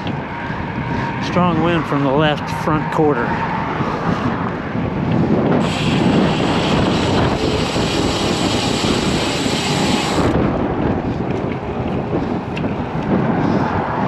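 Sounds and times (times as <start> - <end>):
passing road traffic: 0.0 - 14.0
wind rushing over microphone: 0.0 - 14.0.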